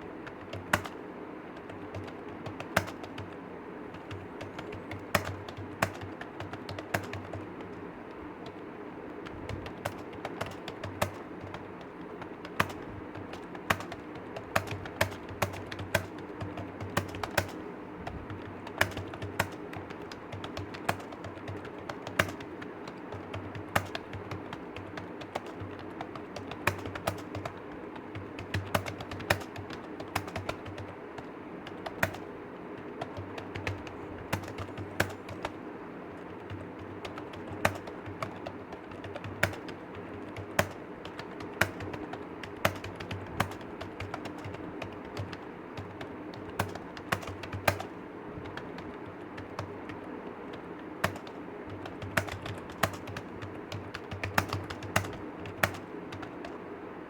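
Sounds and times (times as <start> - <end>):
keyboard typing: 0.0 - 56.6
steady low hum: 0.0 - 57.0.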